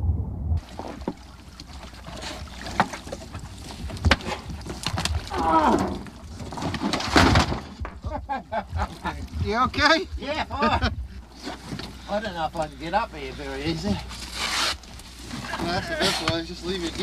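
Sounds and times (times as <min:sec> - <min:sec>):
water splashing: 0:00.6 - 0:17.0.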